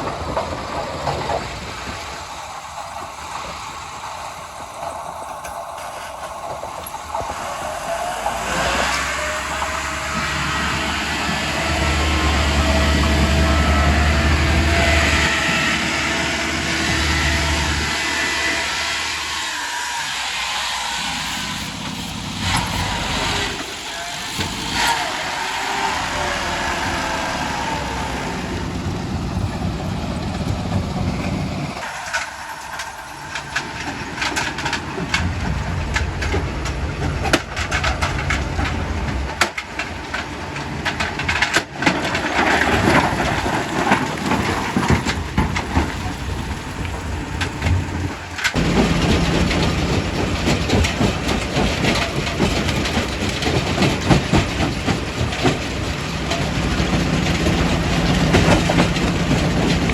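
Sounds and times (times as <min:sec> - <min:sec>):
rock crusher droning: 0:00.0 - 0:59.9.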